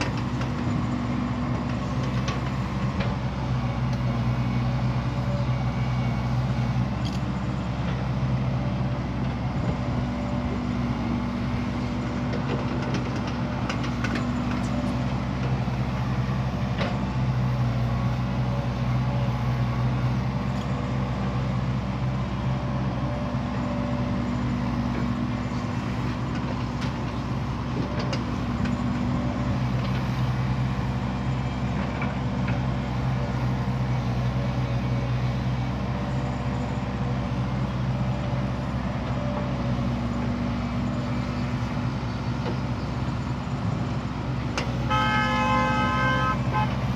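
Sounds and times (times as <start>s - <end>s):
diesel machinery engine hum: 0.0s - 46.9s.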